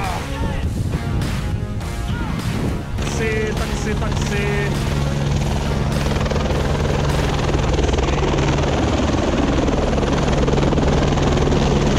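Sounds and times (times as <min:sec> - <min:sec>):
helicopter rotors beating: 0:00.0 - 0:11.9.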